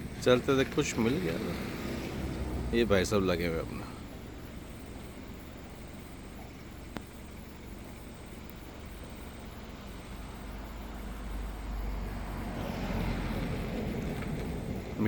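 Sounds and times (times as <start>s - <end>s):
faint insect chirp: 0.0s - 15.0s.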